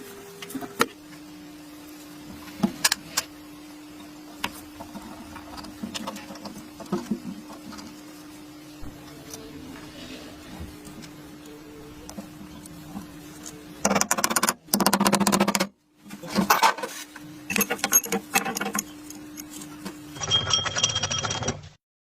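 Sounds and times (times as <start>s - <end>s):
faint steady hum: 0.0s - 20.2s.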